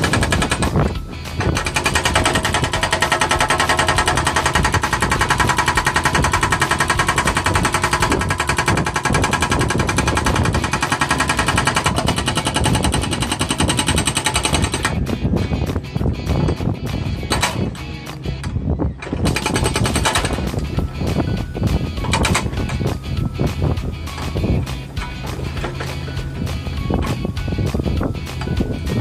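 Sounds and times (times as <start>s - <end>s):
hydraulic breaker hammering concrete: 0.0s - 15.3s, 16.9s - 18.2s, 19.0s - 29.0s.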